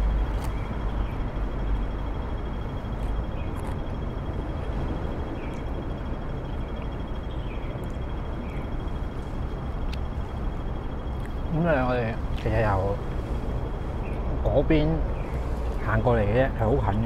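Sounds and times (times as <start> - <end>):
low rumble with hiss: 0.0 - 17.0.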